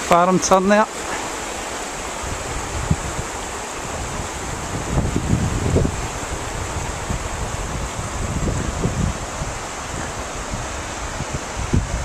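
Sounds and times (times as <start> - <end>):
river water rushing over stones: 0.0 - 12.0
wind rumble on microphone: 1.9 - 12.0.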